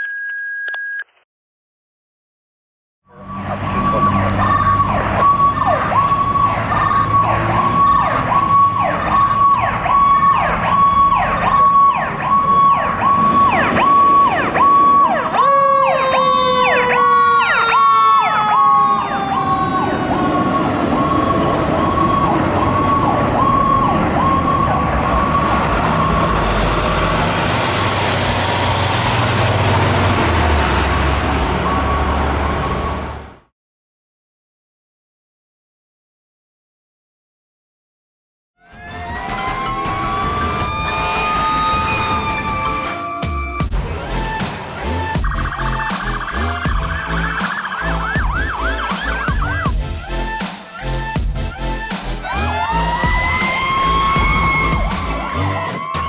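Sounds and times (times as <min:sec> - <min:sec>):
engine and road noise: 0:03.1 - 0:33.5, 0:38.7 - 0:56.0
fire truck siren: 0:03.1 - 0:33.5, 0:38.6 - 0:56.0.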